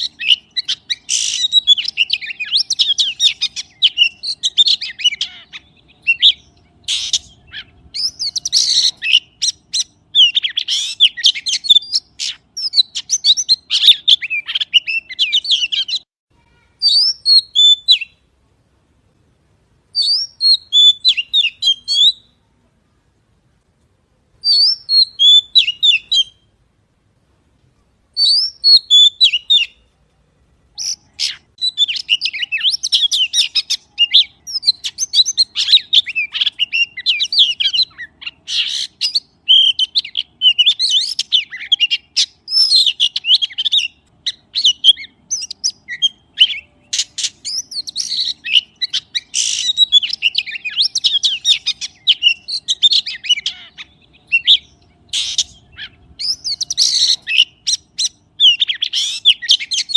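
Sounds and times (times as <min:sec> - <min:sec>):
magpie chirping and whistling: 0:00.0 - 0:16.1, 0:16.8 - 0:18.2, 0:20.0 - 0:22.3, 0:24.4 - 0:26.4, 0:28.2 - 0:29.8, 0:30.7 - 0:59.9.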